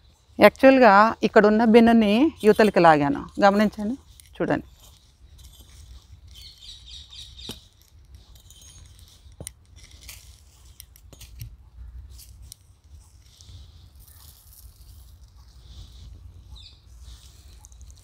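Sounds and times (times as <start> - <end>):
hand hoe scraping soil: 1.8 - 18.0.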